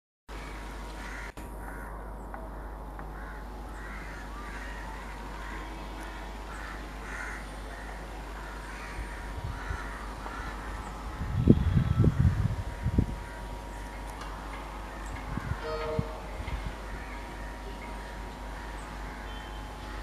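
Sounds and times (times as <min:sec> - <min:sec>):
crows cawing: 0:00.3 - 0:20.0
steady low rumble: 0:00.4 - 0:20.0.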